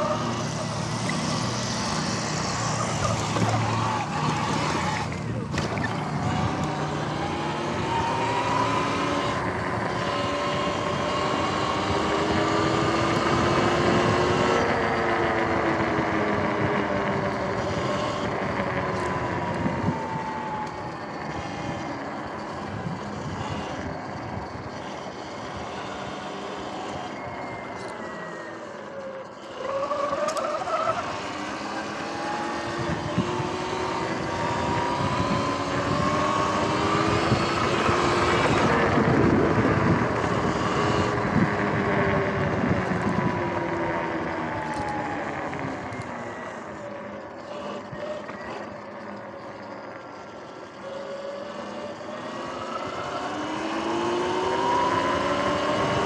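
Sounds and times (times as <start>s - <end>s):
electric motor whining: 0.0s - 56.0s
wind and tyre noise: 0.0s - 56.0s.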